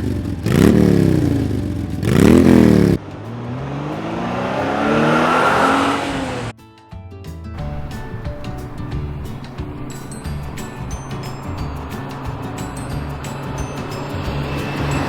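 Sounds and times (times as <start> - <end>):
car engine revving: 0.0 - 6.5, 7.6 - 15.0.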